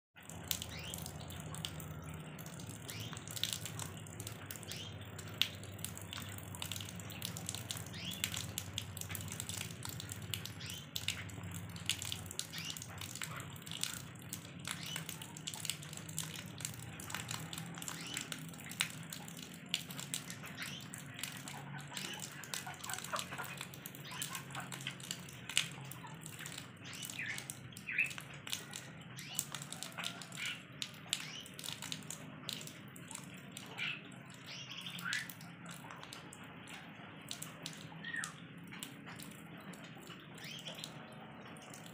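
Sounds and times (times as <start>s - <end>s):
rainwater pouring into a puddle: 0.2s - 41.9s.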